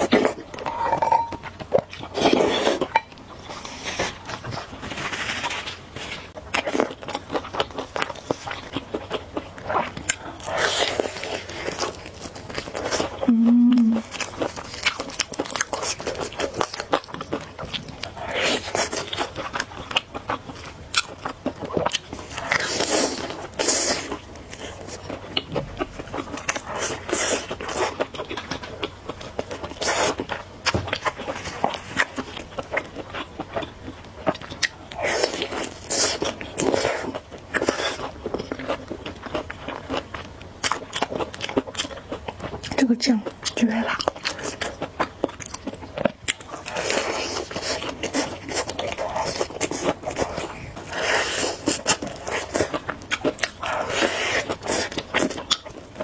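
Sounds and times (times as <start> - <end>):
chewing with wet mouth clicks: 6.4 - 13.3, 14.0 - 56.0.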